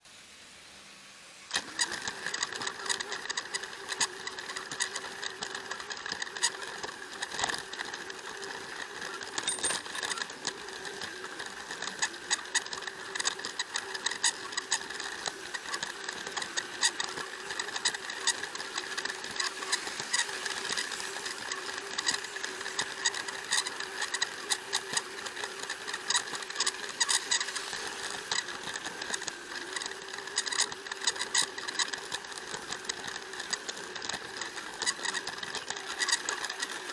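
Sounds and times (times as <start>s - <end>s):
toy train motor whine: 0.1s - 36.9s
plastic wheels clicking on track: 1.5s - 36.9s.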